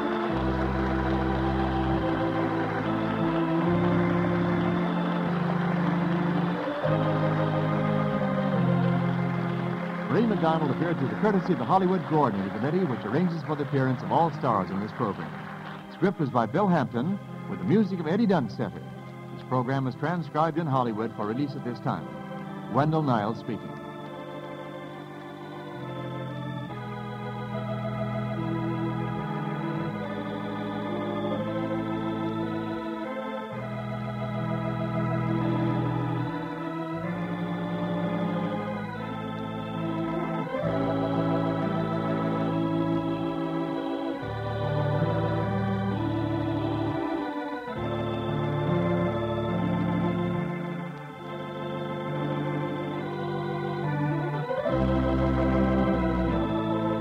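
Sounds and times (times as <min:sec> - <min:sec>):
organ chords: 0:00.0 - 0:57.0.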